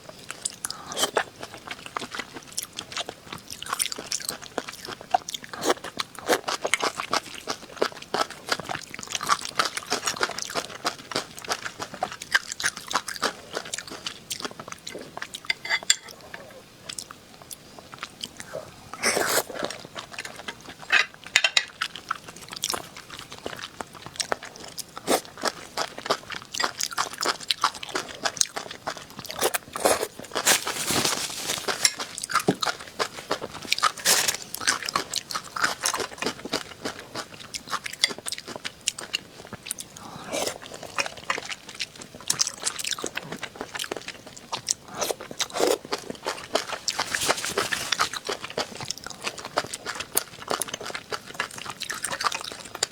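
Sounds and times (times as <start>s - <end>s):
person chewing crunchy food: 0.2s - 52.9s.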